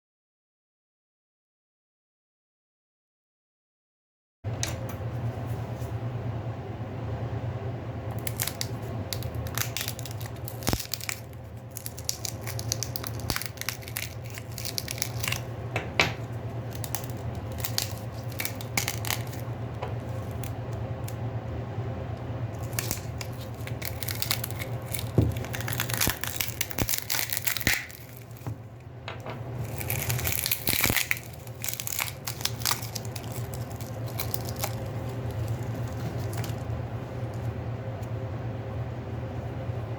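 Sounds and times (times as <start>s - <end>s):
steady low hum: 4.5s - 39.9s.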